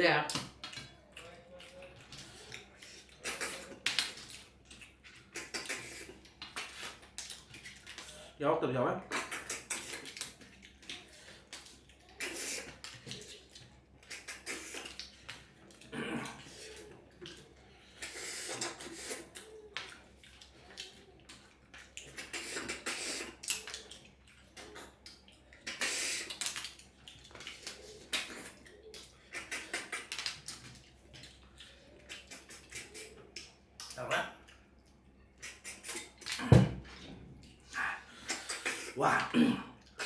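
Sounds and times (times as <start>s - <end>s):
chewing: 0.4s - 8.4s, 9.0s - 40.0s
wet slurping: 1.2s - 8.3s, 9.0s - 34.6s, 35.3s - 40.0s.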